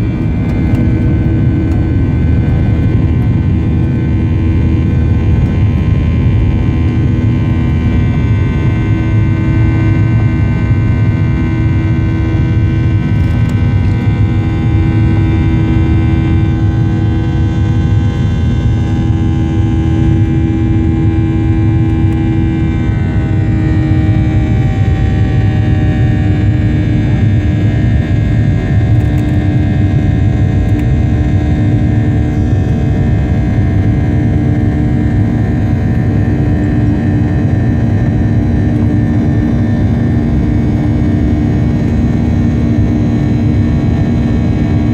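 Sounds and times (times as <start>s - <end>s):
jet engines roaring: 0.0s - 44.9s
whining engine tones: 0.0s - 44.9s.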